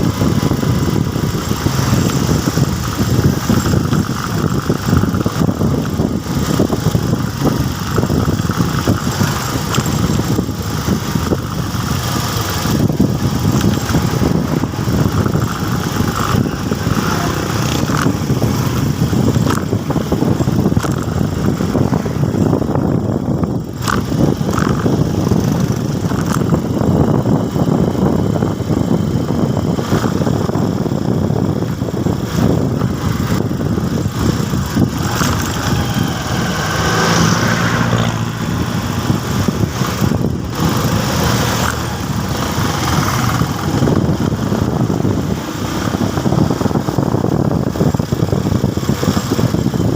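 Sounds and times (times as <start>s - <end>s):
dense rushing noise: 0.0s - 49.9s
motorcycle engine running: 0.0s - 49.9s.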